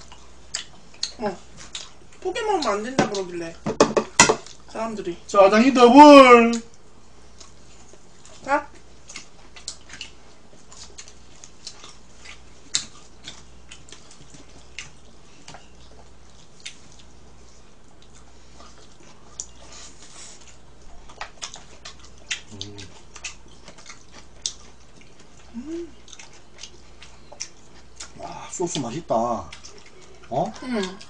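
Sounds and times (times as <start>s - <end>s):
chewing and mouth noises: 0.0s - 3.3s, 6.6s - 31.0s
low steady hum: 0.0s - 31.0s.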